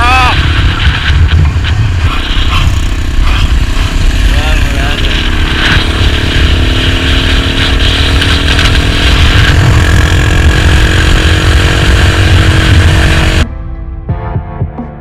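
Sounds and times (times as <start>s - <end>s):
motorcycle engine running: 0.0s - 13.5s
heavy low rumble: 0.0s - 14.8s.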